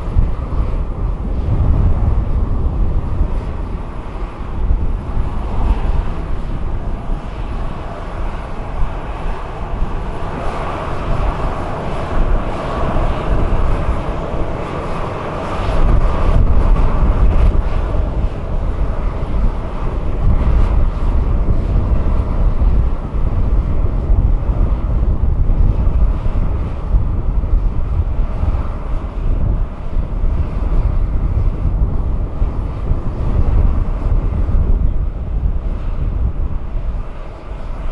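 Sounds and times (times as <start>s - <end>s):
jet engine roar: 0.0s - 37.9s
low rumble: 0.0s - 37.9s.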